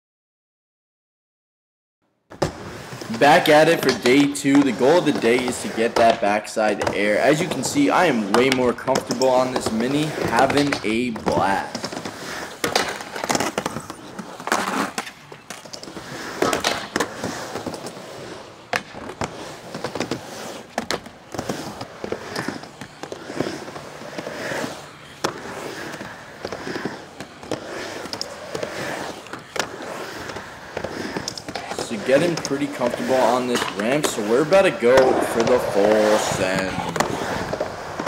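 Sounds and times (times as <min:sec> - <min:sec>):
skateboard clacking on ramp: 0:02.3 - 0:18.0, 0:18.6 - 0:38.0
skateboard wheels rumbling: 0:02.3 - 0:38.0.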